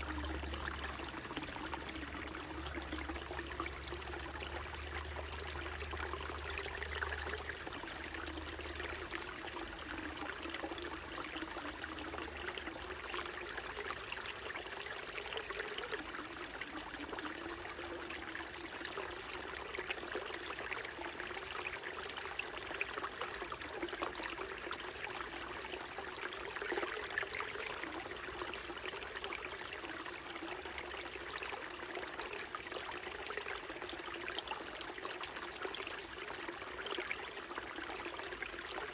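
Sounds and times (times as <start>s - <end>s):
mountain stream babbling: 0.0s - 38.9s.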